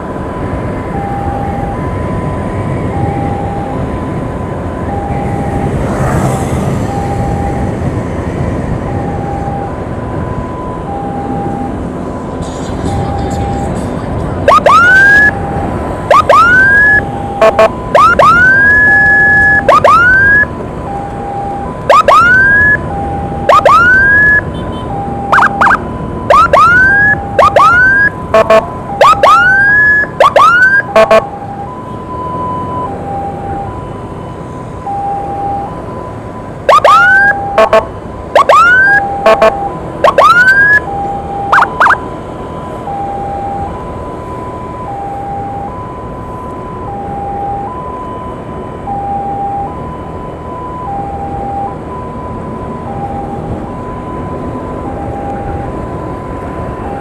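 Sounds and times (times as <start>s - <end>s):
two-tone hi-lo siren: 0.0s - 13.8s, 14.4s - 57.0s
rising siren whoops: 0.3s - 11.9s, 14.4s - 57.0s.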